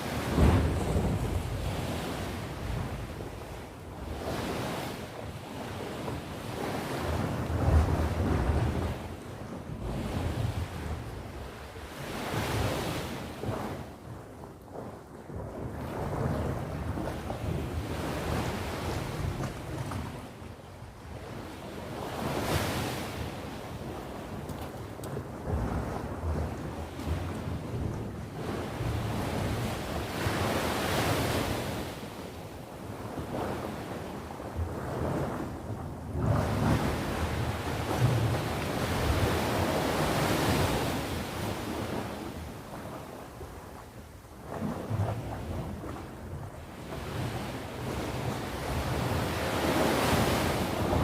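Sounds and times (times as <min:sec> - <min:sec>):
surf rumbling on shore: 0:00.0 - 0:51.0.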